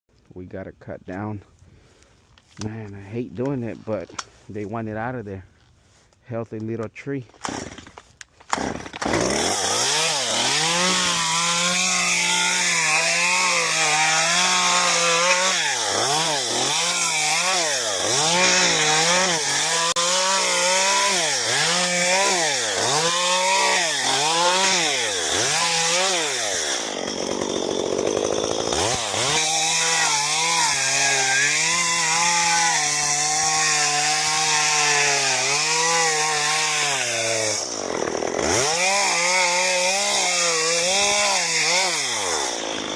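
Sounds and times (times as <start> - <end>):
chainsaw cutting wood: 7.4 - 42.9.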